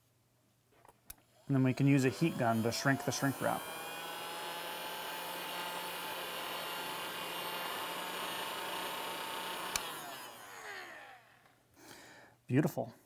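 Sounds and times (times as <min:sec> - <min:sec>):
heat gun fan blowing: 0:01.1 - 0:11.6.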